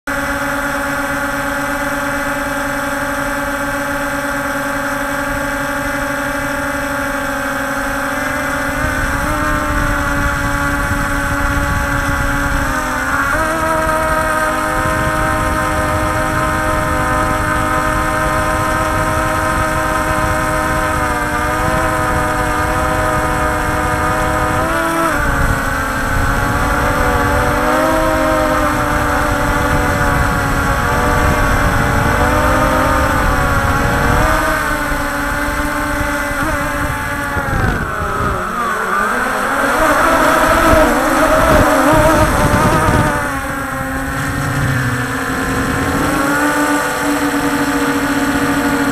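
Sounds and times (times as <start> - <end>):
model aircraft motor whine: 0.1 - 48.9
wind rumble on microphone: 0.1 - 48.9.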